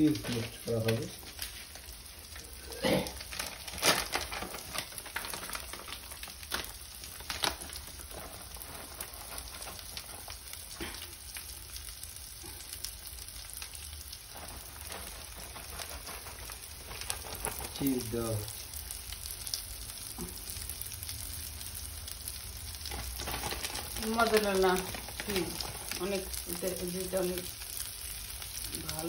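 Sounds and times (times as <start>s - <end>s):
food sizzling in a frying pan: 0.0s - 29.0s.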